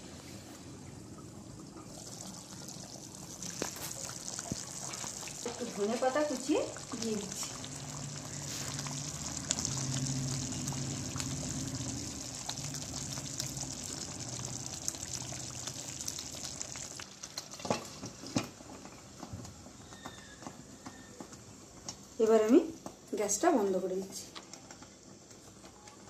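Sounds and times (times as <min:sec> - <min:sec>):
curry bubbling in pan: 0:00.7 - 0:26.0.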